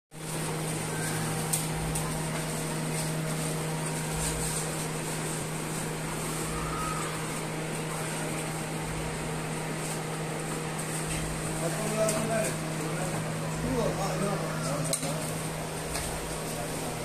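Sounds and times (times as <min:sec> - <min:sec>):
low mechanical hum: 0:00.2 - 0:17.0.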